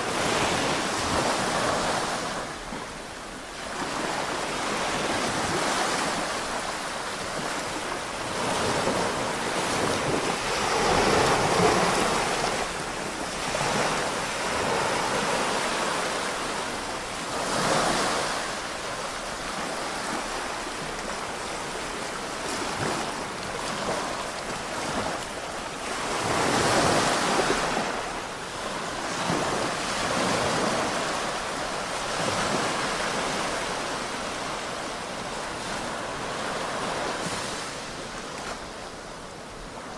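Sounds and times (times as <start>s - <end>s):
waves washing onto beach: 0.0s - 39.9s.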